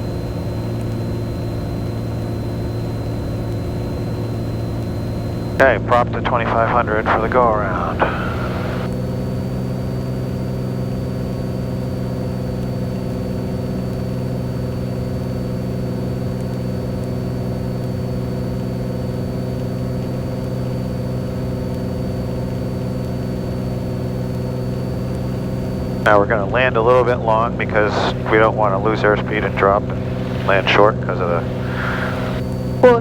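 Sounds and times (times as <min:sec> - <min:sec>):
faint high whine: 0:00.0 - 0:33.0
propeller plane engine droning: 0:00.0 - 0:33.0.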